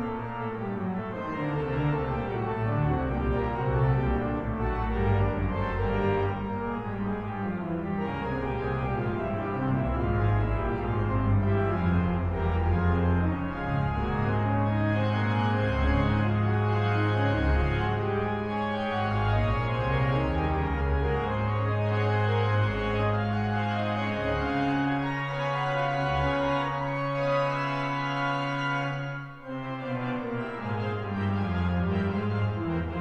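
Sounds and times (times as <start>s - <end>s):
pipe organ playing: 0.0s - 33.0s.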